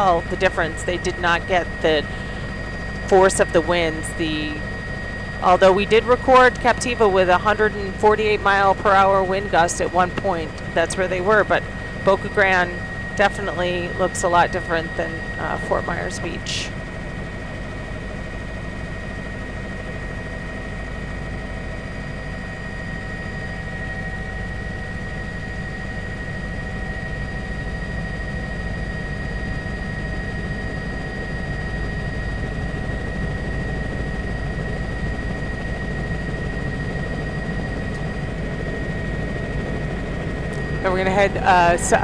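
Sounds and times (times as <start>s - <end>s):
small aircraft engine drone: 0.0s - 42.0s
thin steady whine: 0.0s - 42.0s.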